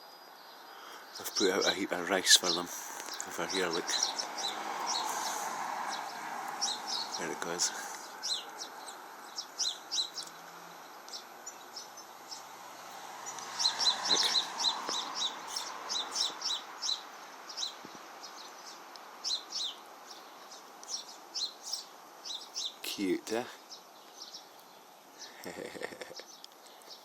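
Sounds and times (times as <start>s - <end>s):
sparrows chirping: 0.0s - 27.0s
steady background noise: 0.0s - 27.0s.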